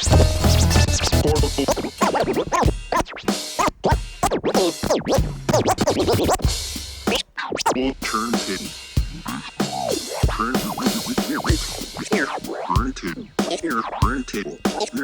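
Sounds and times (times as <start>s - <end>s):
record scratching: 0.0s - 6.5s, 7.1s - 15.0s
sparse beat with bass: 0.0s - 15.0s.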